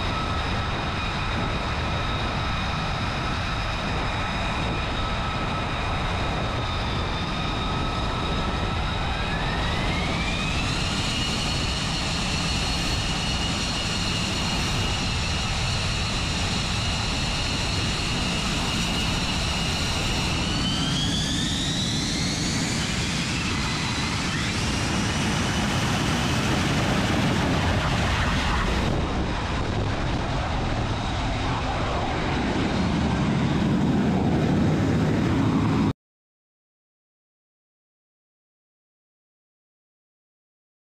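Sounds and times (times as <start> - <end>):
jet engine whine and roar: 0.0 - 36.0.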